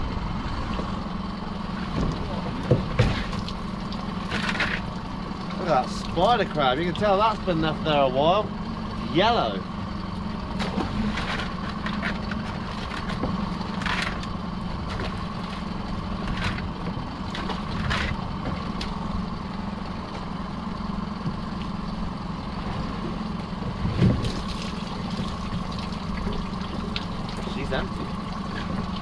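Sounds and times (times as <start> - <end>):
boat engine idling: 0.0 - 29.0.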